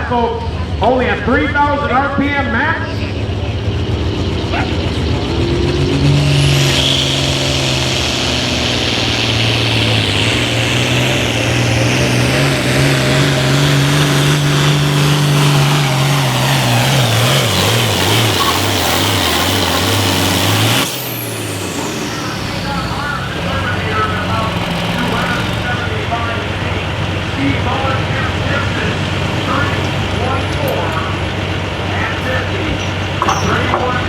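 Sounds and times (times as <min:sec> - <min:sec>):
tractor engine running hard: 0:00.0 - 0:34.0.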